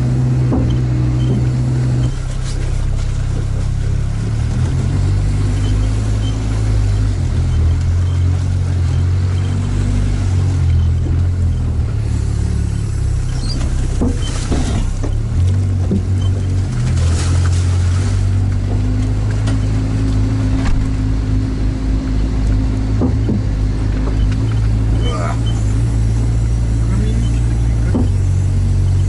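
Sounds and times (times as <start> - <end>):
diesel engine running: 0.0 - 29.0
vehicle splashing through water: 0.0 - 29.0.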